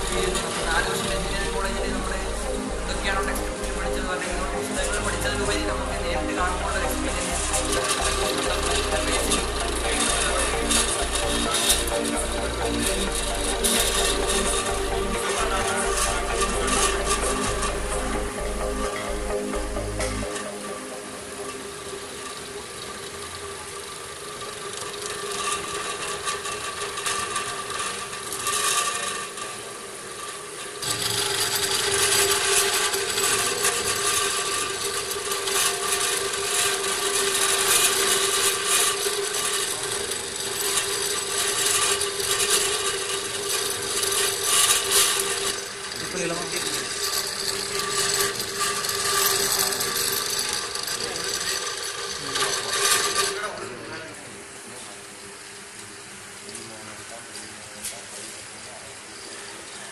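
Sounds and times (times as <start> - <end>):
tool grinding against metal plate: 0.0 - 54.1
motor hum and whine: 0.0 - 59.9.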